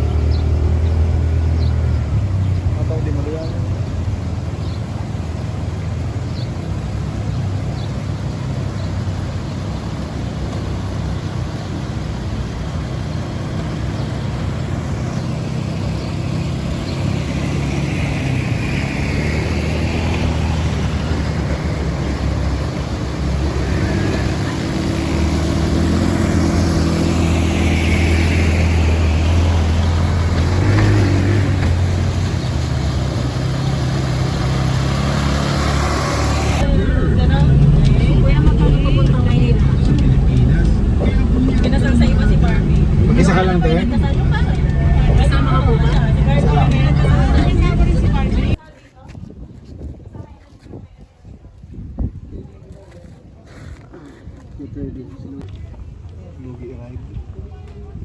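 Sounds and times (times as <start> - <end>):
vehicle engine running: 0.0 - 48.6.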